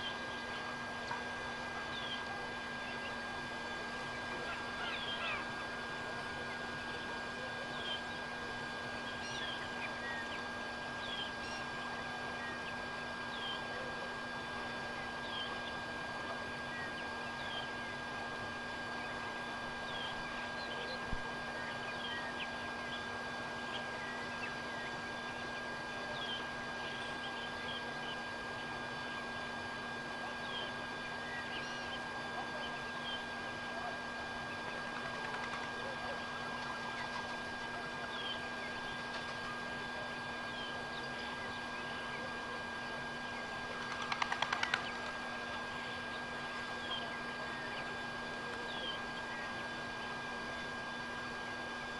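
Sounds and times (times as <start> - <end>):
constant hum: 0.0 - 51.9.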